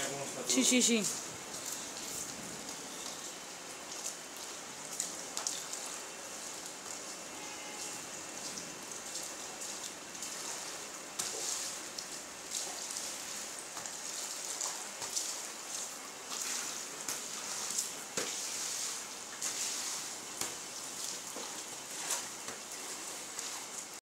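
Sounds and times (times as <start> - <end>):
water swishing on tiled floor: 0.0 - 24.0.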